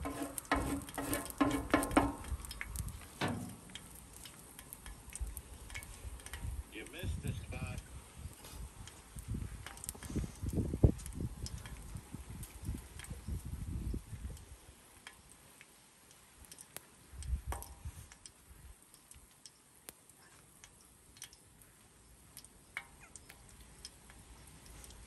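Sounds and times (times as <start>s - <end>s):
fat popping and crackling: 0.0s - 25.0s.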